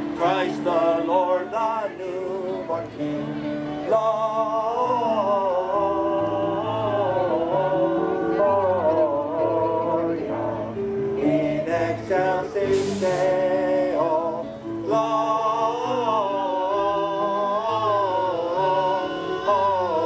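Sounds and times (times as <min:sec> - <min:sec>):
person singing a song: 0:00.1 - 0:20.0.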